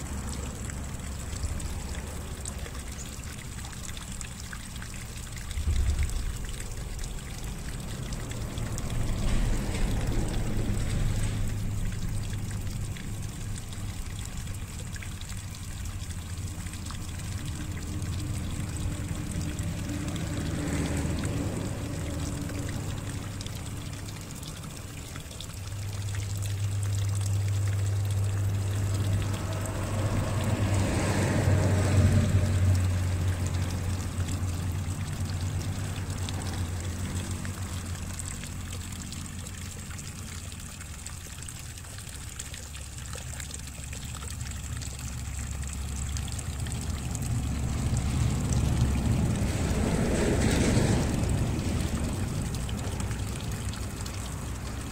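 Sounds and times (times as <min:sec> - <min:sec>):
low steady hum: 0:00.0 - 0:54.9
water pouring and trickling: 0:00.0 - 0:54.9.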